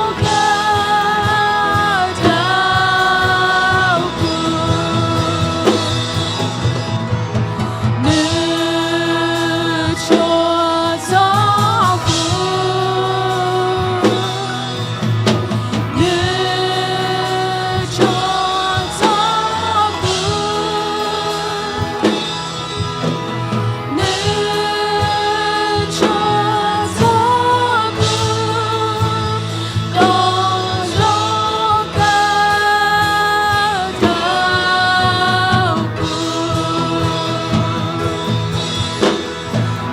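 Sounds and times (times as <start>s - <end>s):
band accompaniment with steady beat: 0.0s - 39.9s
person singing: 0.0s - 39.9s.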